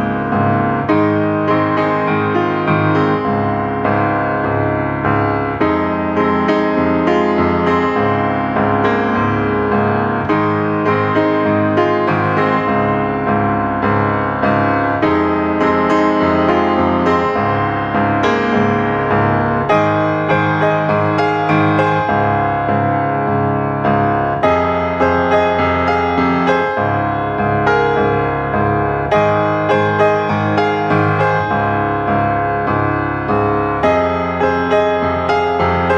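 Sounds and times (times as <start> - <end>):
piano music: 0.0 - 35.9.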